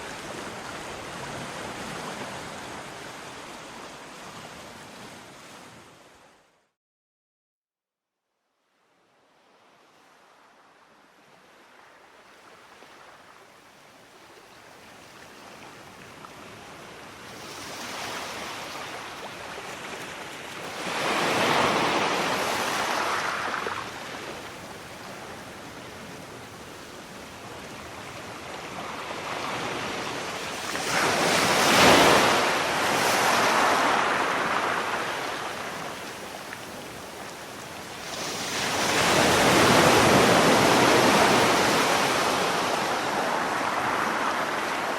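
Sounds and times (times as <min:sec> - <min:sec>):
sea waves breaking on shore: 0:00.0 - 0:06.4, 0:09.4 - 0:44.9.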